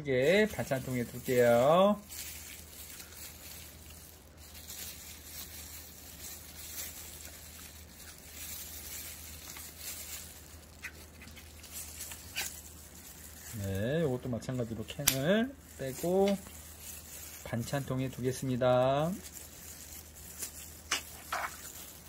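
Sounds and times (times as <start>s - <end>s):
room hiss and hum: 0.0s - 22.0s.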